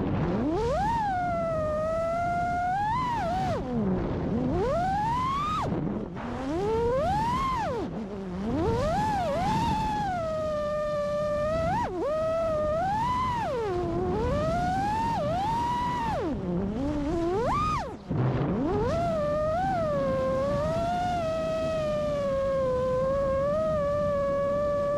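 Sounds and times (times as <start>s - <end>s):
quadcopter motors whining: 0.0s - 24.9s.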